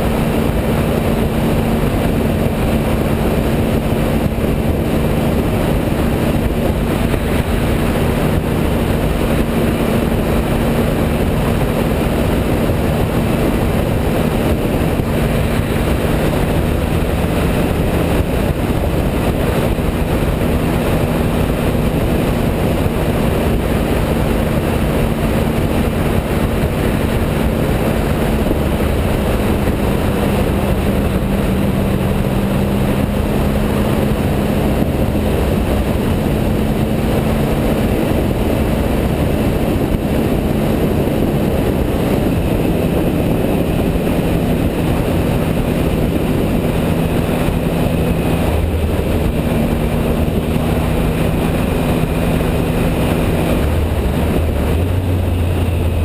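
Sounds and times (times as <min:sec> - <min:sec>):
motorcycle engine cruising: 0:00.0 - 0:56.0
road noise: 0:00.0 - 0:56.0
wind noise: 0:00.0 - 0:56.0.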